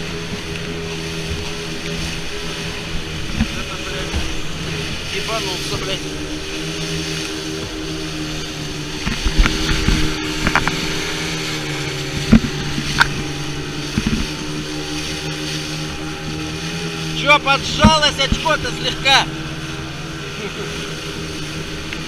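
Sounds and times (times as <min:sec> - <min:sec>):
hull thumping on waves: 0:00.0 - 0:22.0
outboard engine running: 0:00.0 - 0:22.0.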